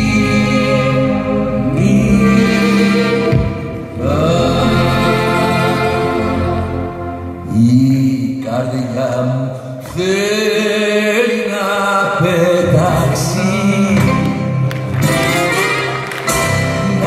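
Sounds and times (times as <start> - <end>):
person singing: 0.0 - 16.0
piano: 0.0 - 17.0.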